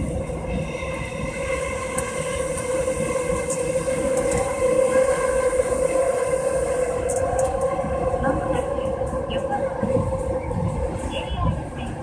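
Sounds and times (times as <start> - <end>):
train running through tunnel: 0.0 - 12.0.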